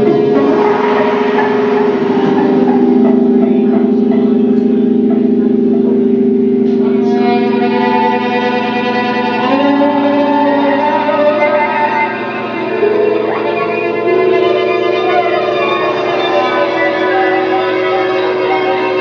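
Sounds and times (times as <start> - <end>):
high sustained string notes: 0.0 - 19.0
string trio bowed tones: 0.0 - 19.0.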